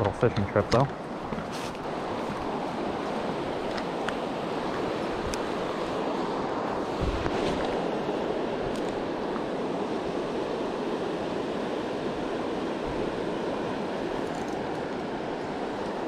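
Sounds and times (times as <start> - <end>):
fast-flowing river rushing: 0.3 - 16.0.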